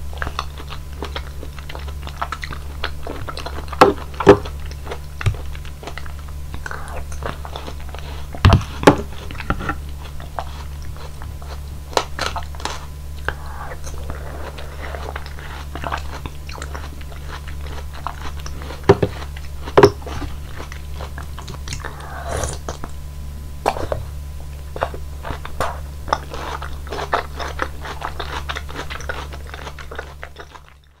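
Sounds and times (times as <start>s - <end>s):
steady low hum: 0.0s - 31.0s
wet chewing of soft fruit: 0.0s - 31.0s.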